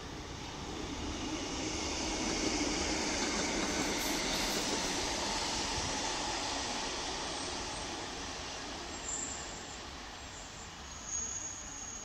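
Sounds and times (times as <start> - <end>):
passenger train running on tracks: 0.0 - 12.0.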